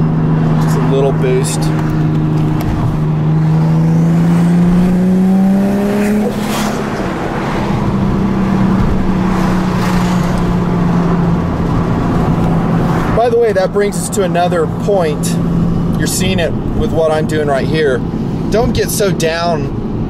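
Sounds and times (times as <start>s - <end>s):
car engine from inside cabin: 0.0s - 20.0s.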